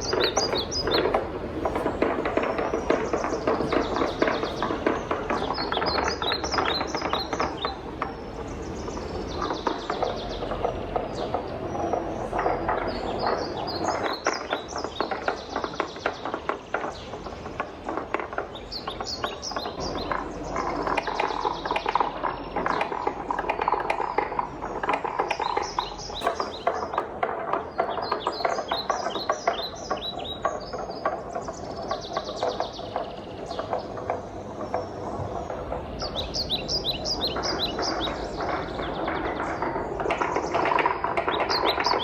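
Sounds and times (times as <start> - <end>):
wooden balls rolling on track: 0.0 - 42.0.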